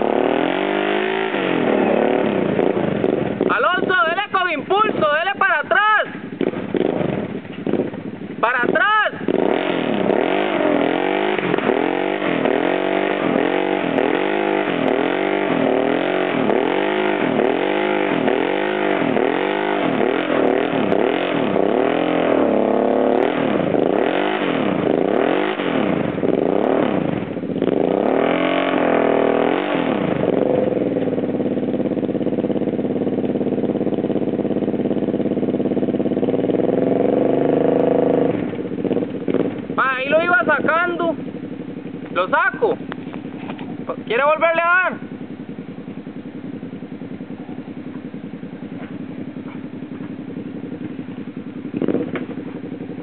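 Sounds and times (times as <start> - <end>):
quad engine revving: 0.0 - 53.0.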